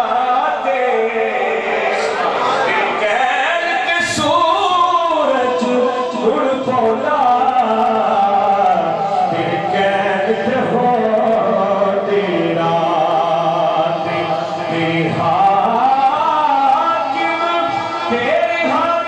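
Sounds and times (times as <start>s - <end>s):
man singing devotional song: 0.0s - 19.0s.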